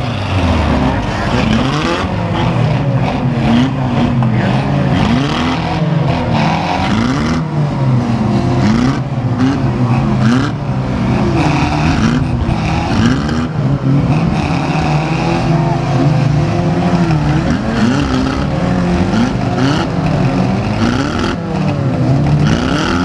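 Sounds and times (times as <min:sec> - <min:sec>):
car engines revving hard: 0:00.0 - 0:23.0
cars shoving against each other: 0:00.0 - 0:23.0.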